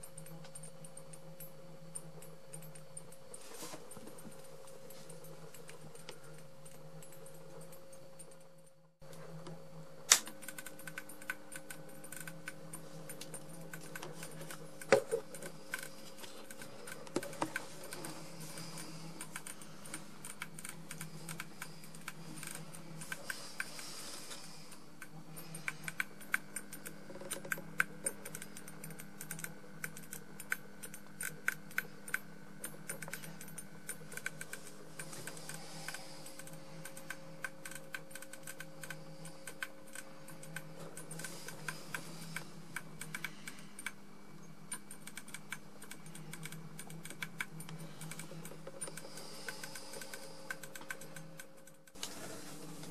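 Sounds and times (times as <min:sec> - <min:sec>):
fluorescent tube humming: 0:00.0 - 0:52.9.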